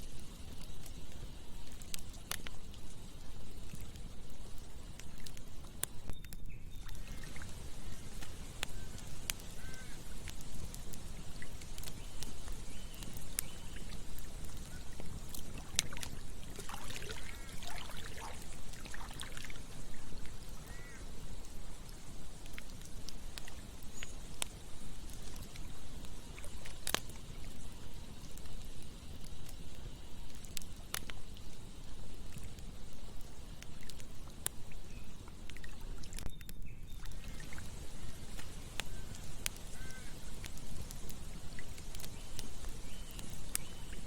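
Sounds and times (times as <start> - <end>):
campfire burning: 0.0 - 44.0.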